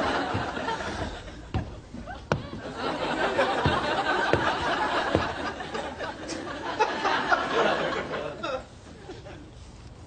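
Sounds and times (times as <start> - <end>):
studio audience laughing: 0.0 - 1.5, 2.1 - 9.5.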